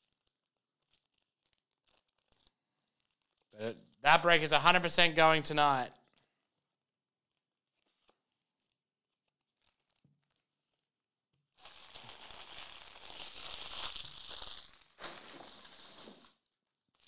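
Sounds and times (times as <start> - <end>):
foil wrapper crinkling and tearing: 0.0 - 3.5, 6.0 - 17.0.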